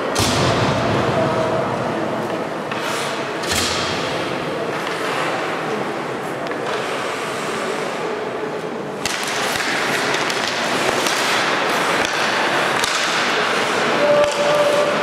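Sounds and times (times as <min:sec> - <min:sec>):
skates scraping ice: 0:02.1 - 0:15.0
hockey sticks and puck clacking: 0:02.2 - 0:15.0.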